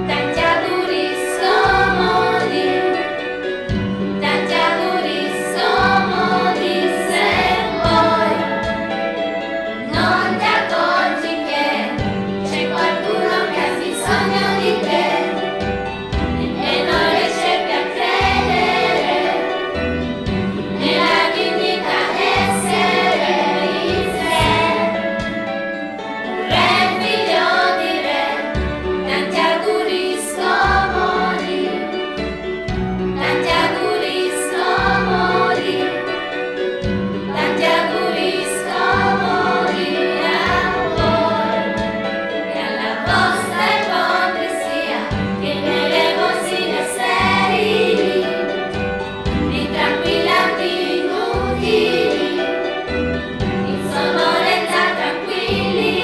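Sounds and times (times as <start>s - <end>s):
choir singing: 0.0s - 32.5s, 33.1s - 56.0s.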